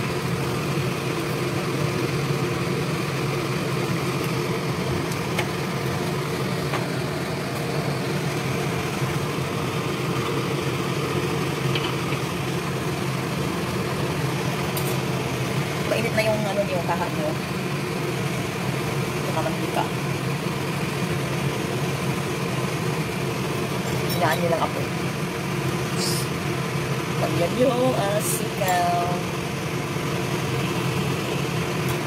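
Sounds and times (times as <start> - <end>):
low kitchen hum: 0.0 - 32.0.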